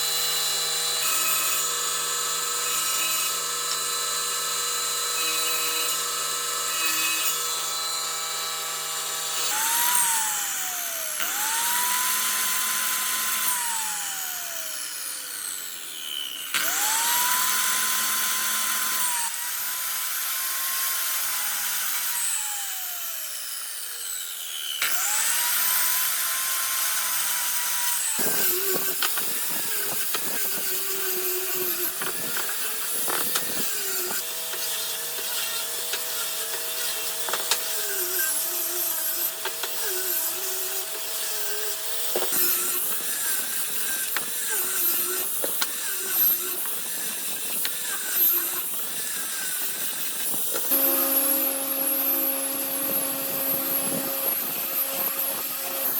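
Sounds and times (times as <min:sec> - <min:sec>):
power tool cutting wood: 0:00.0 - 0:55.9.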